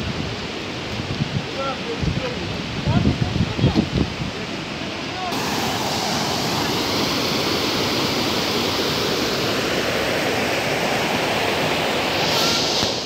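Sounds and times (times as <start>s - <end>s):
water rushing over weir: 0.4s - 13.0s.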